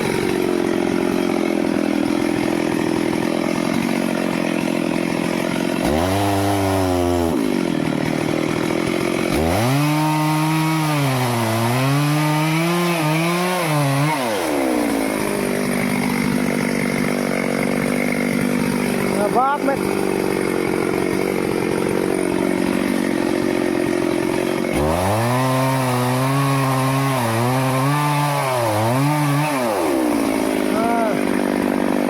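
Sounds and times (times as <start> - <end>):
chainsaw cutting wood: 0.0 - 32.0.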